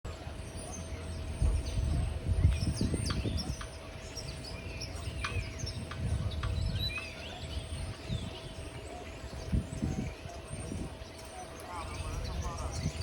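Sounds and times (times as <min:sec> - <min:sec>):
small songbirds chirping: 0:00.1 - 0:13.0.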